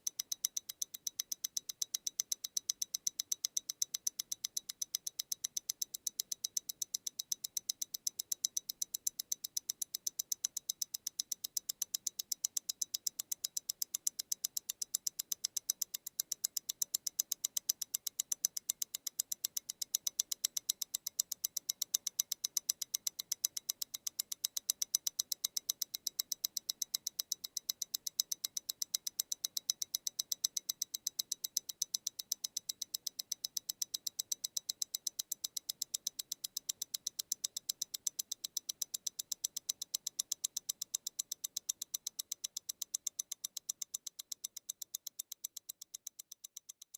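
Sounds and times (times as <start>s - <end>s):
wristwatch ticking: 0.0s - 46.9s.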